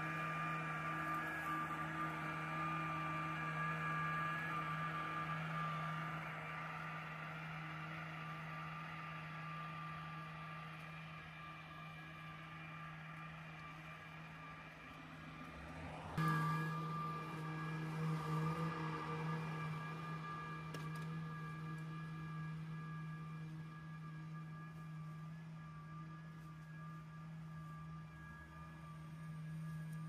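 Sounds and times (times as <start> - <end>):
robotic lawn mower whirring: 0.0 - 30.0.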